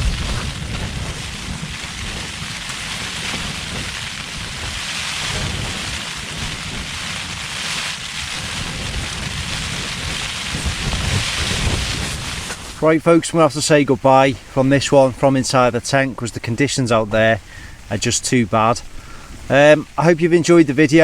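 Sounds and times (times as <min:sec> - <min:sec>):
gusting wind buffeting tent: 0:00.0 - 0:21.0
rain pattering on tent fabric: 0:00.0 - 0:21.0.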